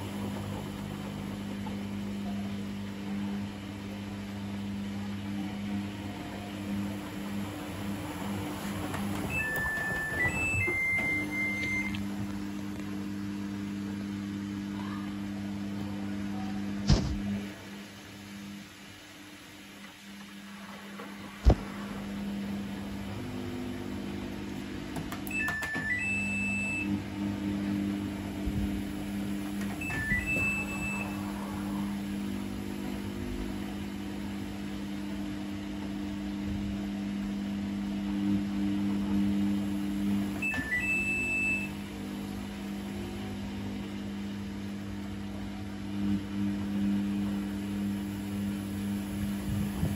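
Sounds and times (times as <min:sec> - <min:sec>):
washing machine motor hum: 0:00.0 - 0:49.9.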